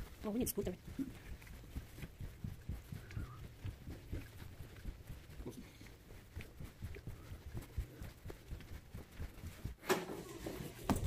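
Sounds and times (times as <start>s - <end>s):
footsteps thumping: 0.0s - 11.0s.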